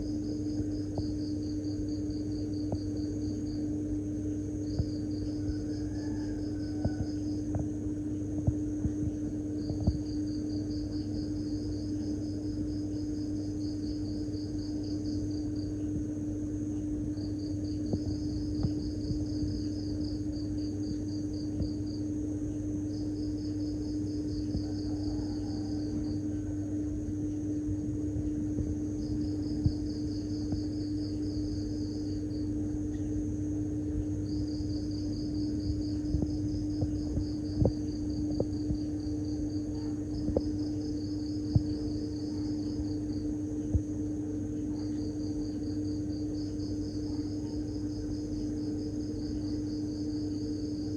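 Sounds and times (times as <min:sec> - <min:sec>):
insects trilling: 0:00.0 - 0:50.9
steady low hum: 0:00.0 - 0:50.9.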